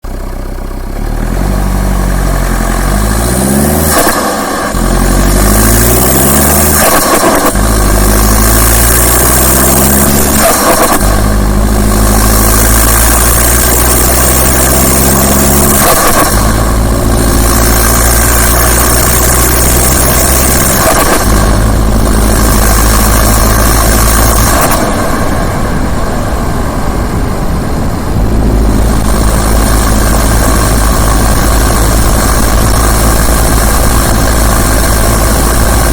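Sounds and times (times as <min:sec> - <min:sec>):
diesel engine turbo whine: 0:00.0 - 0:35.9.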